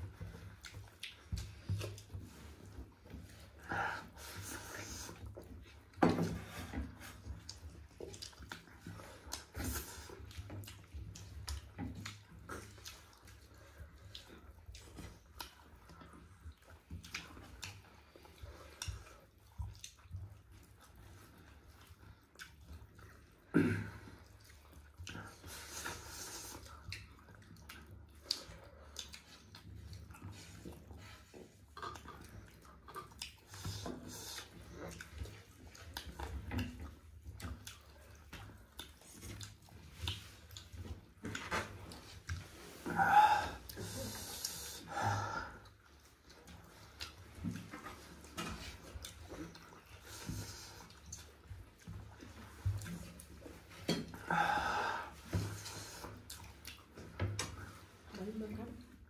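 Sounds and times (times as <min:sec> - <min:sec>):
mouth clicks and smacks: 0:00.0 - 0:54.4, 0:55.1 - 0:58.1
wet chewing: 0:00.0 - 0:59.0.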